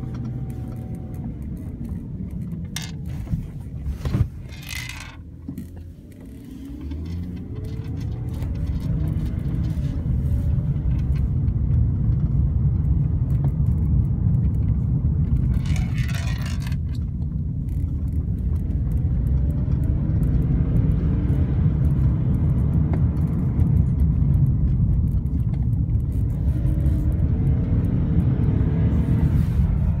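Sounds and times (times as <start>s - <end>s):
road noise inside car: 0.0s - 30.0s
car engine accelerating: 5.3s - 30.0s.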